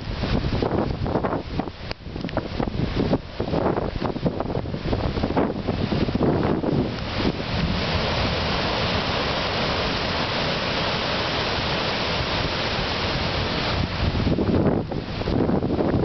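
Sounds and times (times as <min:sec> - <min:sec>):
storm surf breaking over rocks: 0:00.0 - 0:16.0
strong wind: 0:00.0 - 0:16.0
wind gusts buffeting microphone: 0:00.0 - 0:16.0.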